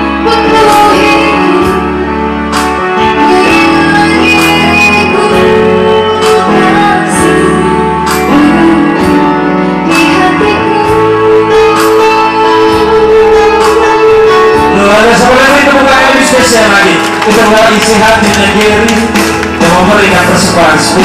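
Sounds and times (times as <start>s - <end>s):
loud music with held chords: 0.0s - 21.0s.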